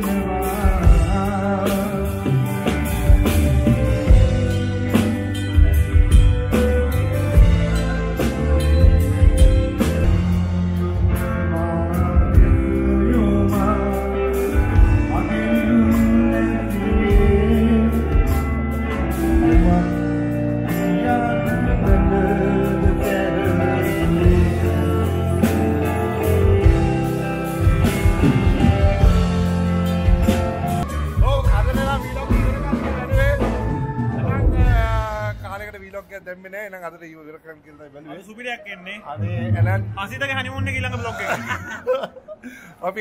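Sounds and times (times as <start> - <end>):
electric guitar: 0.0 - 35.0
drum kit: 0.0 - 35.9.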